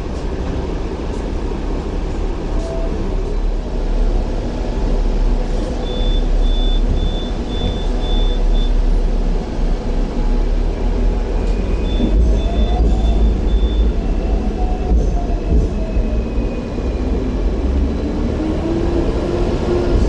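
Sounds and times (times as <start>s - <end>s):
tram rumbling on rails: 0.0s - 20.0s.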